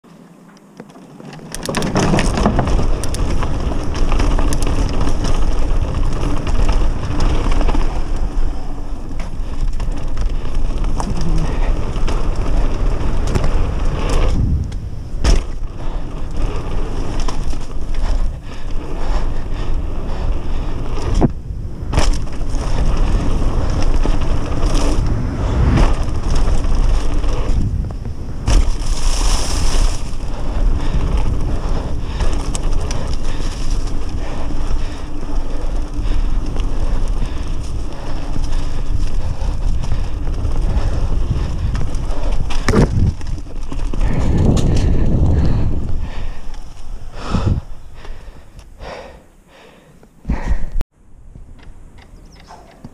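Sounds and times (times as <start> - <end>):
bike rattling: 0.3 - 50.8
tyres crunching on dirt: 0.6 - 50.2
wind noise on microphone: 1.6 - 49.0.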